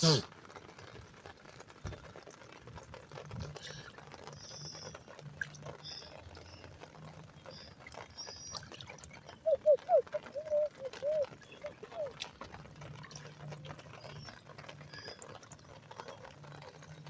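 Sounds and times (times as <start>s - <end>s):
water trickling into storm drain: 0.0s - 17.0s.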